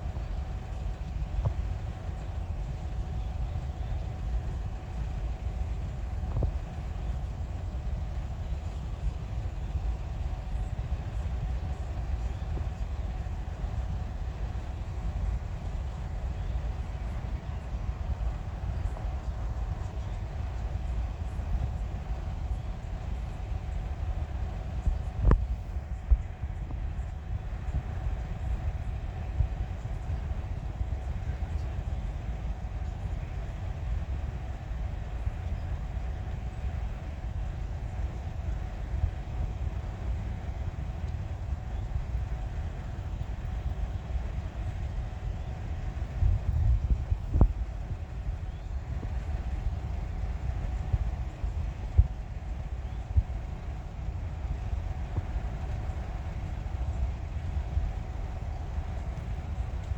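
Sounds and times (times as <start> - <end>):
faint steady tone: 0.0 - 59.9.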